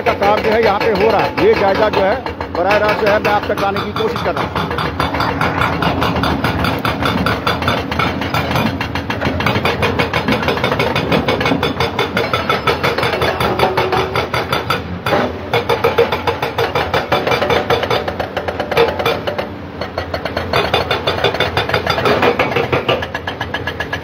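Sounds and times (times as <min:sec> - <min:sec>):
diesel engines running: 0:00.0 - 0:24.0
hydraulic breaker hammering rock: 0:00.0 - 0:24.0.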